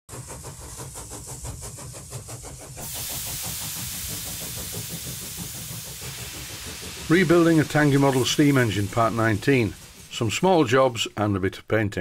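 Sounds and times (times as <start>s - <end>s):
machine running with quick beat: 0.1s - 11.2s
loud steam hiss: 0.1s - 12.0s.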